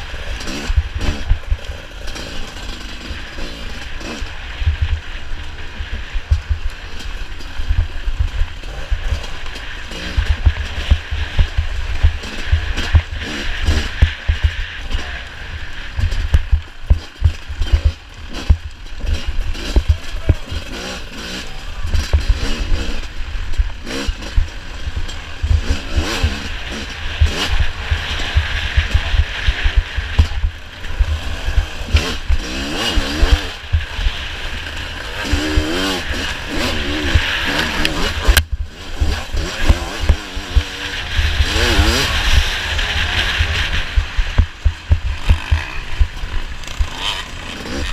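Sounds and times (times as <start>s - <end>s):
racing engine revving: 5.7s - 47.9s.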